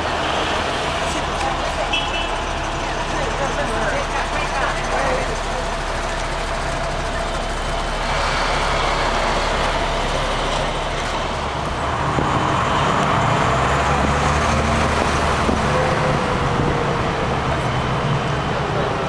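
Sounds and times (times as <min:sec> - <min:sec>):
bus engine running: 0:00.0 - 0:19.0
road and traffic noise: 0:00.0 - 0:19.0.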